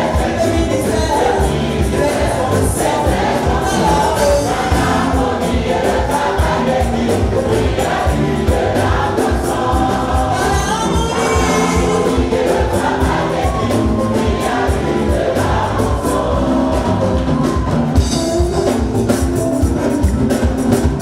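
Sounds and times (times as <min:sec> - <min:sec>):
gospel choir singing: 0:00.0 - 0:19.3
band with steady drum beat: 0:00.0 - 0:21.0.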